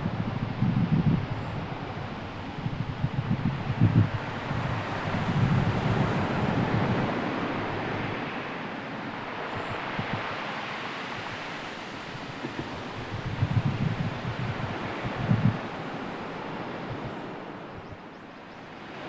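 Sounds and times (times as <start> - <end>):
sea surf washing in: 0.0 - 17.8
wind buffeting microphone: 0.0 - 19.0.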